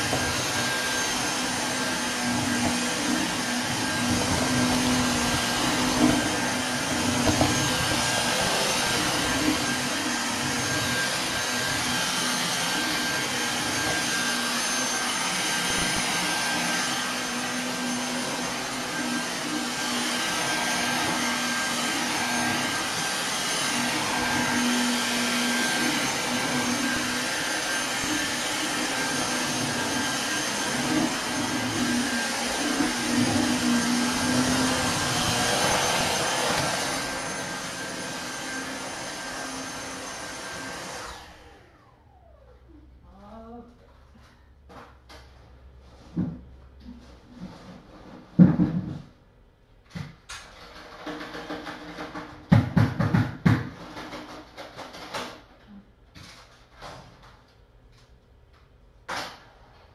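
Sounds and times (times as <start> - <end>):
vacuum cleaner running: 0.0 - 43.6, 45.6 - 49.1, 49.9 - 55.5, 59.1 - 59.9.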